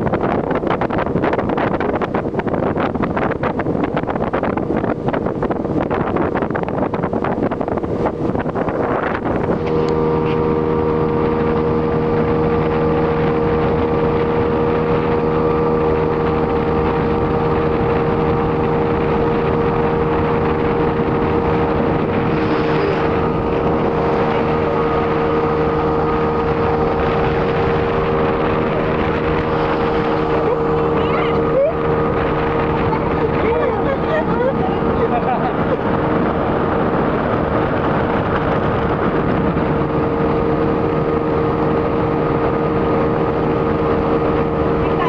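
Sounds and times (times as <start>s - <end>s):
motorboat engine running: 0.0s - 45.0s
rushing water: 0.0s - 45.0s
wind: 0.0s - 45.0s.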